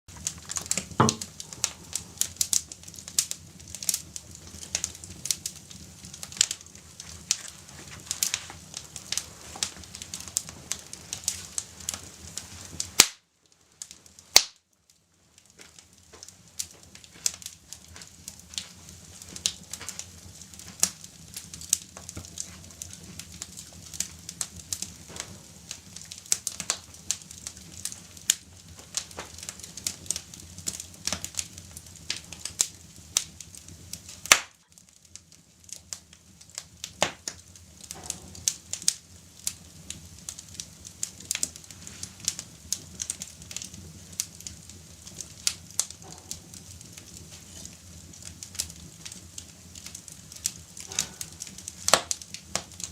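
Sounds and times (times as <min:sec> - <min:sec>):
wood fire crackling and popping: 0:00.1 - 0:52.9.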